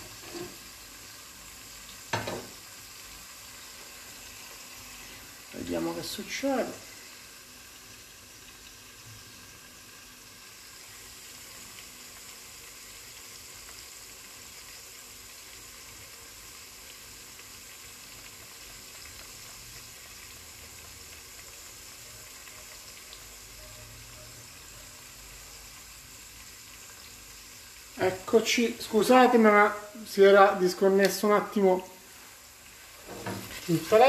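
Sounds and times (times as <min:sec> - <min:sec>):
onions frying in oil: 0:00.0 - 0:34.0.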